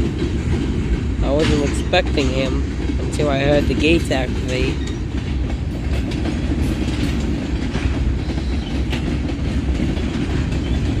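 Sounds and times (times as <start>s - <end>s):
freight train rumbling past: 0.0s - 11.0s
wheels clicking over rail joints: 0.0s - 11.0s.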